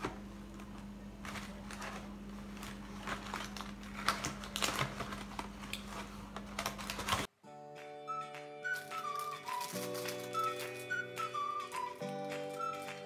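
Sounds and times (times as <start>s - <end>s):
paper packets rustling and clicking: 0.6s - 7.3s, 8.6s - 13.0s.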